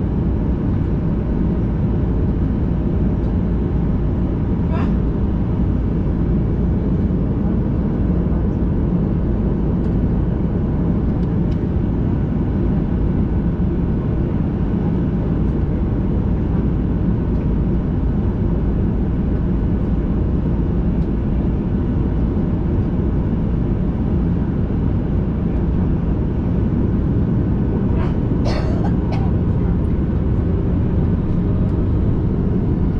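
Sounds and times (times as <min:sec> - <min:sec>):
aircraft cabin rumble: 0:00.0 - 0:32.9.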